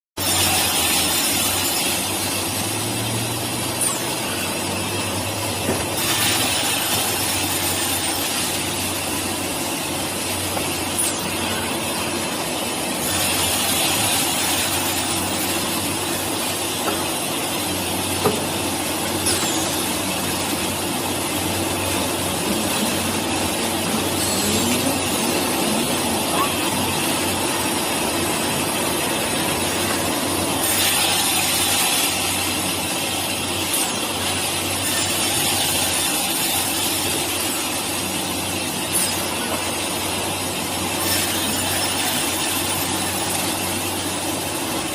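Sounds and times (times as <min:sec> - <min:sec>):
wood-cutting machinery humming: 0:00.2 - 0:44.9.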